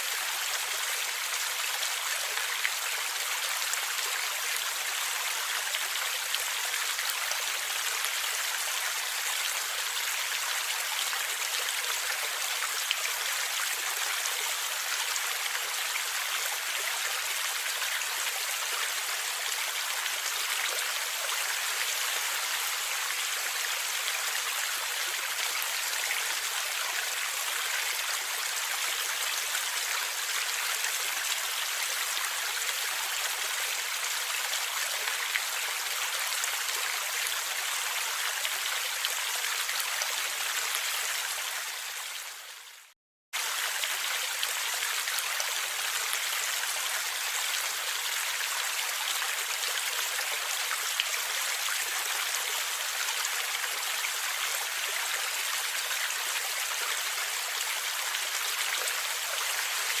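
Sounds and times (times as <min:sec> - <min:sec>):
stream water flowing: 0:00.0 - 1:00.0.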